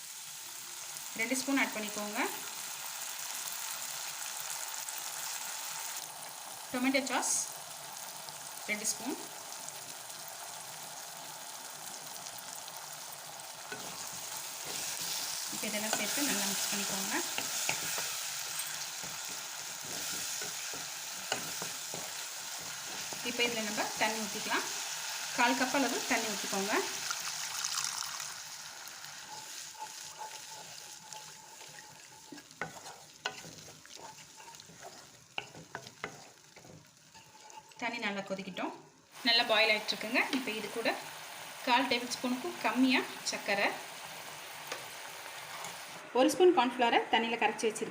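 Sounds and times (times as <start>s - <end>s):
vegetables sizzling in hot oil: 0.0s - 47.8s.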